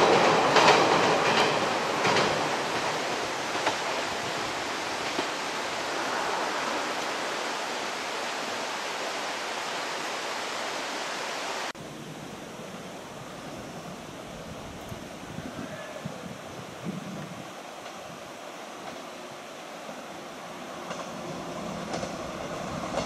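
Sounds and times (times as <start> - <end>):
river water rushing: 0.0 - 23.0
wind: 0.0 - 23.0.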